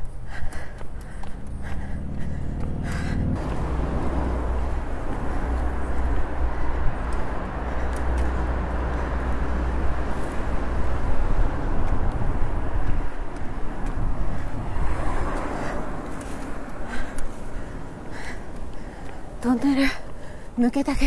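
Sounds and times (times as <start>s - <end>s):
bicycle road noise rumble: 0.0s - 21.0s
wind rushing over microphone: 0.6s - 19.4s.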